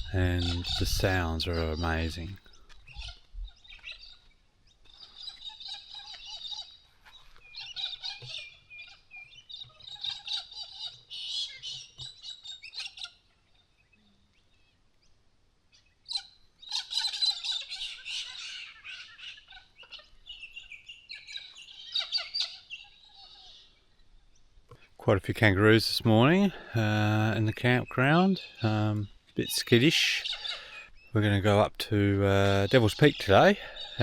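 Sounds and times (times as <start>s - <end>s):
wild birds chirping and singing: 0.0s - 34.0s.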